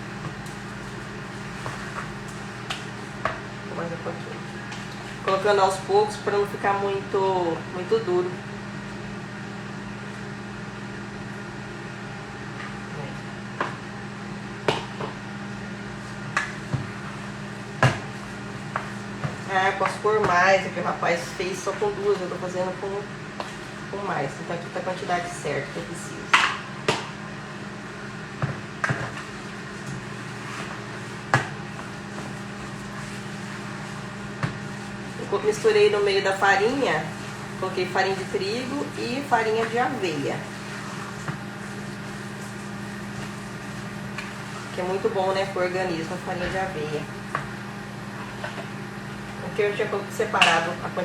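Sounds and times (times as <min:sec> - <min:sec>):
microwave oven humming: 0:00.0 - 0:51.0.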